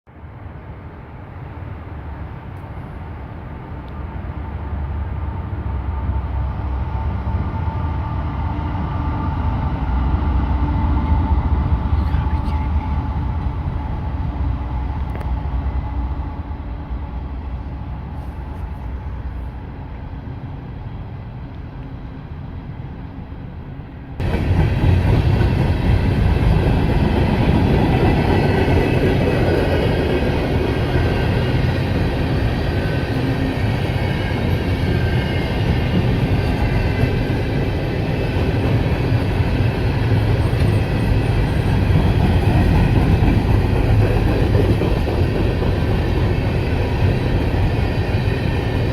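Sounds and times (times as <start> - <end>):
train rumble and clatter: 0.1 - 48.9.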